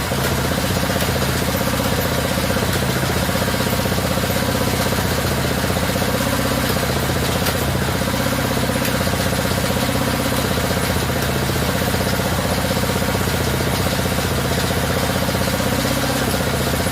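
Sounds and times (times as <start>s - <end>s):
machine motor humming and rattling: 0.0s - 16.9s.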